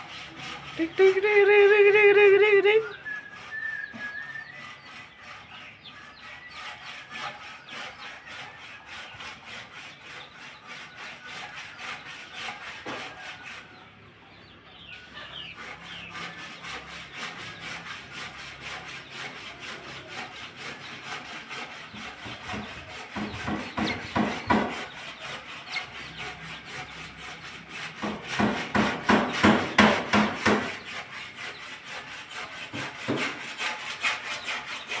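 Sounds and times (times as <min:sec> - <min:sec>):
chickens clucking: 0:00.0 - 0:35.0.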